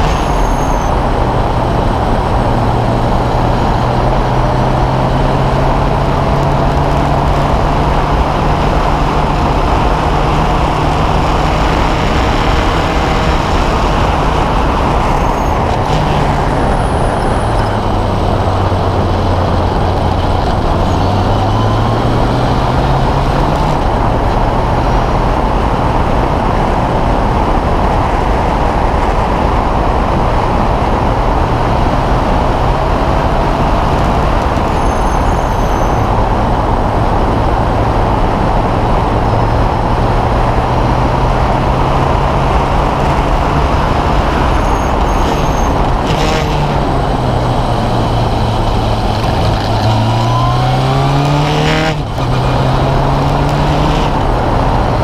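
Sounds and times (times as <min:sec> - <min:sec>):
race car engine at speed: 0:00.0 - 0:55.0
wind and road noise: 0:00.0 - 0:55.0.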